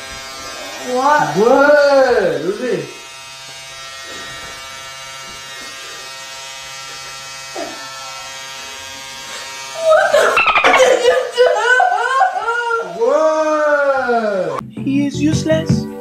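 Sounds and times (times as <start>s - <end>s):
electric hair clippers buzzing: 0.0s - 13.6s.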